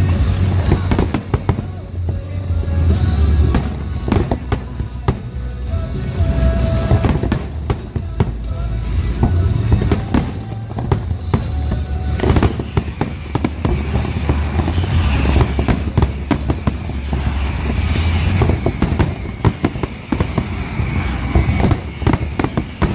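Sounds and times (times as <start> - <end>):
fireworks bangs and crackles: 0.0 - 22.9
low rumble of explosions: 0.0 - 22.9.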